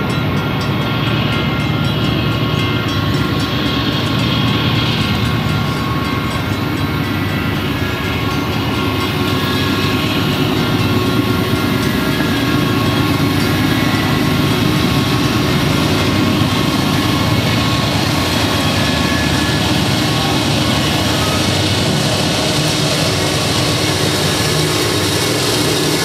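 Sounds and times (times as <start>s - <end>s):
diesel locomotive engine rumbling: 0.0s - 26.0s.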